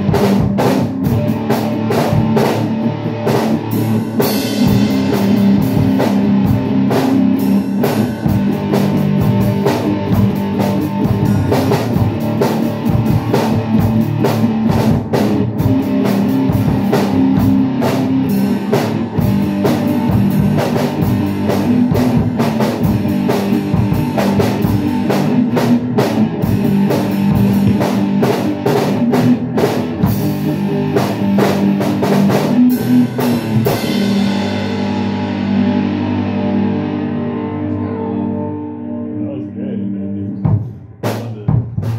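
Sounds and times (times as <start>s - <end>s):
drum kit beat: 0.0s - 37.8s, 40.4s - 41.9s
electric guitar: 0.0s - 41.9s.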